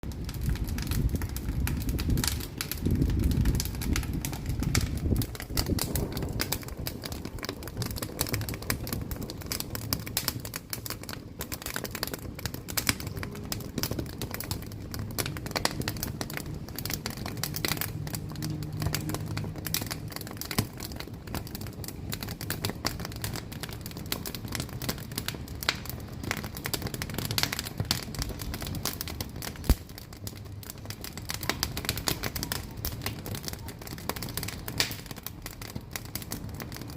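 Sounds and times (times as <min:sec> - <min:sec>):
low rumble of flame: 0:00.0 - 0:36.9
wood fire crackling and popping: 0:00.0 - 0:36.9.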